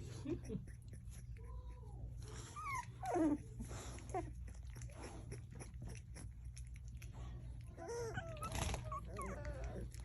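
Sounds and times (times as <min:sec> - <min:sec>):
puppy whining: 0:00.1 - 0:10.0
puppy chewing: 0:00.2 - 0:10.0.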